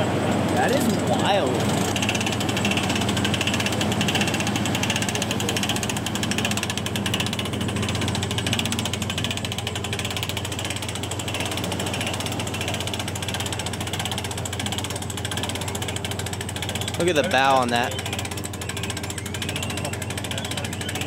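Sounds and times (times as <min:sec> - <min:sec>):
winch ratchet clicking: 0:00.6 - 0:21.0.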